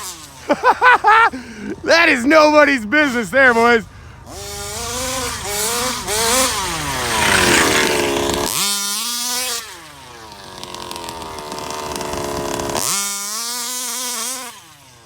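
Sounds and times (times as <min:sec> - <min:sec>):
model car engine revving: 0:00.0 - 0:15.0.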